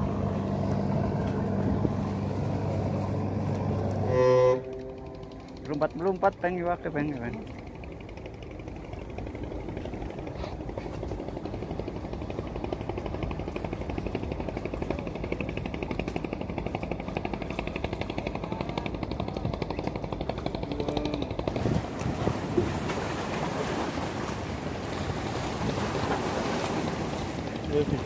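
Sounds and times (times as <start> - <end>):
boat engine chugging: 0.0 - 28.0.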